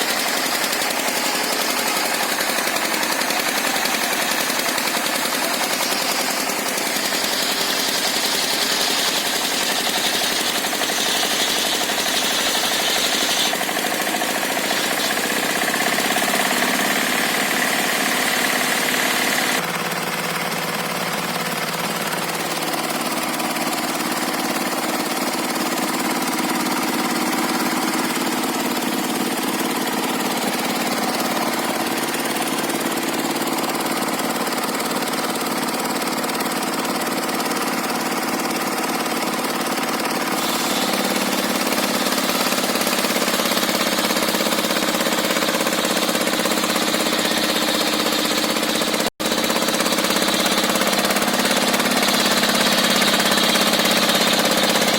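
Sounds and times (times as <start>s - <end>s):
circular saw cutting a log: 0.0s - 54.9s.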